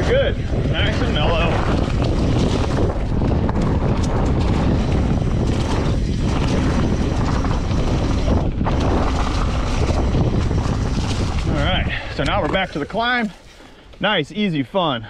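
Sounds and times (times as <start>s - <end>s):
wind on microphone: 0.0s - 13.0s
bike tyres on dirt and leaves: 0.3s - 14.6s
bike clicks and rattles: 0.4s - 14.0s.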